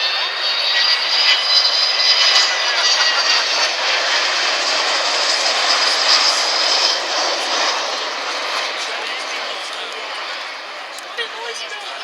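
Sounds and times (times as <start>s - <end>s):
jet airliner flying overhead: 0.0s - 12.0s.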